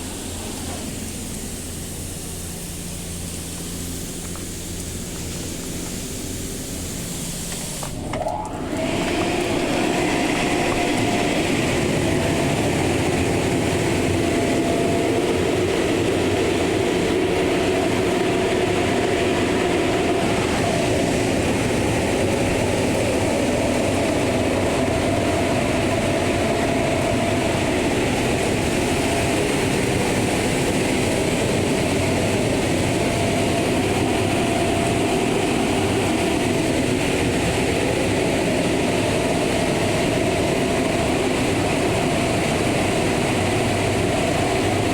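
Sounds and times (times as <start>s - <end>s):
car wash machinery running: 0.0s - 44.9s.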